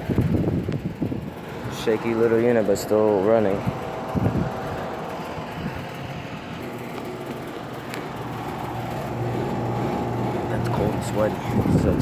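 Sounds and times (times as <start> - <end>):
compressor humming: 0.0 - 12.0
condenser fan rushing: 0.0 - 12.0.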